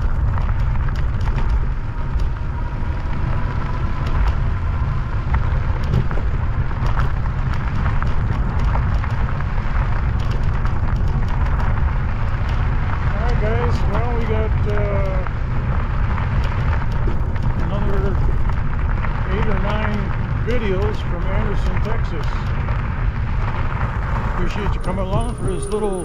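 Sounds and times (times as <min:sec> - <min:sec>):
faint clicks and rattles: 0:00.0 - 0:26.0
wind buffeting microphone: 0:00.0 - 0:26.0.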